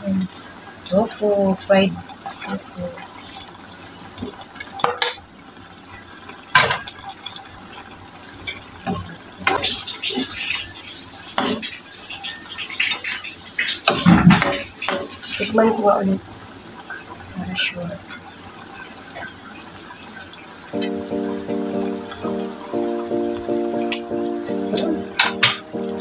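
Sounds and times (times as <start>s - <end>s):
pan sizzling: 0.0s - 26.0s.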